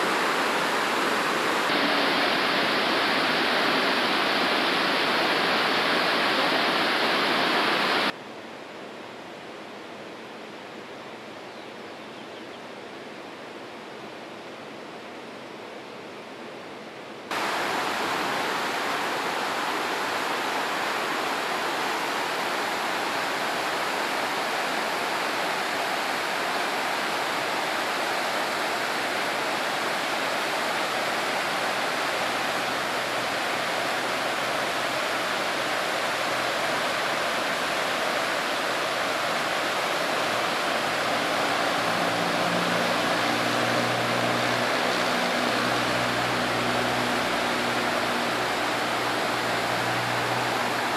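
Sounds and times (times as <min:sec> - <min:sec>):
whitewater river rushing: 0:00.0 - 0:08.2, 0:17.3 - 0:50.9.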